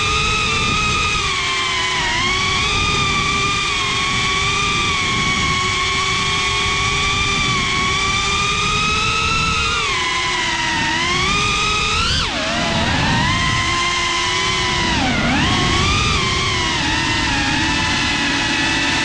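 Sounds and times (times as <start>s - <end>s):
quadcopter motors whining: 0.0s - 19.0s
rushing wind and prop noise: 0.0s - 19.0s.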